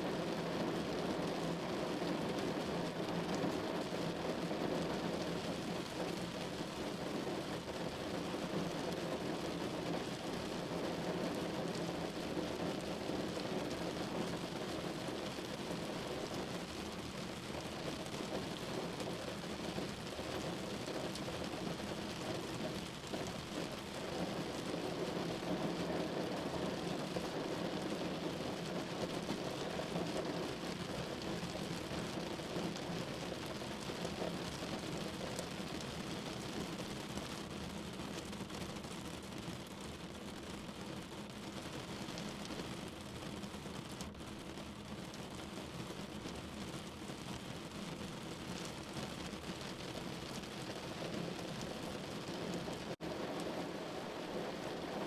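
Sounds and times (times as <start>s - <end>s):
rain on a window pane: 0.0s - 55.0s.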